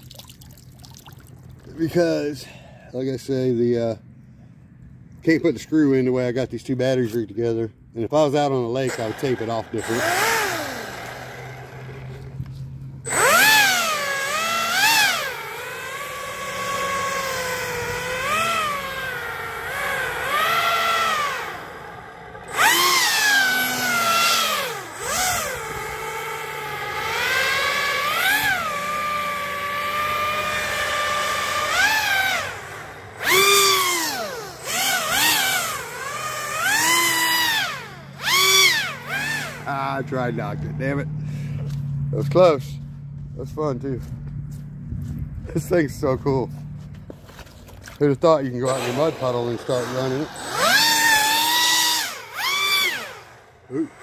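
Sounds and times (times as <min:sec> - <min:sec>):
airboat motor whining and revving: 0:08.2 - 0:54.0.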